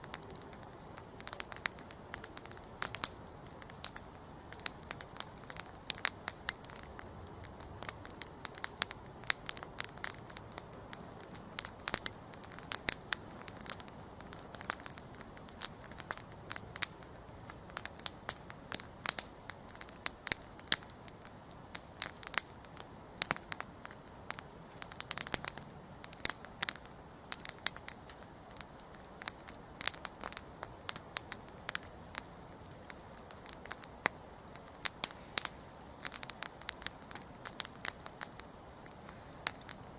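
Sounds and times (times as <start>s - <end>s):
campfire crackling and popping: 0.0s - 39.9s
soft rush of flames: 0.0s - 39.9s.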